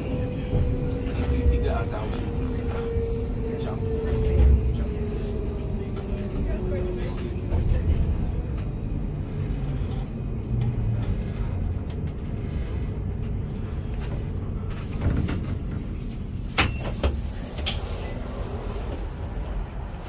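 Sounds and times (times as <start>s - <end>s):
tram humming at a stop: 0.0s - 20.0s.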